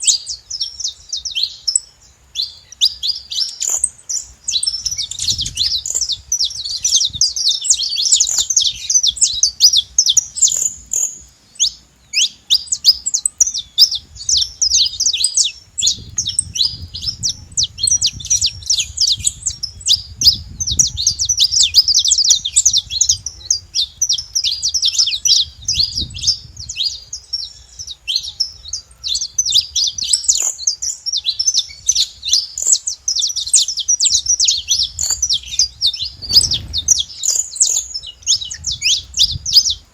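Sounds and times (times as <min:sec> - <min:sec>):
finch singing rapid high chirps: 0:00.0 - 0:39.9.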